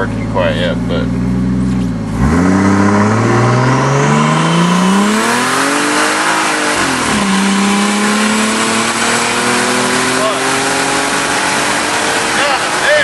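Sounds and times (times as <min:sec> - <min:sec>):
turbo engine accelerating hard: 0:00.0 - 0:13.0.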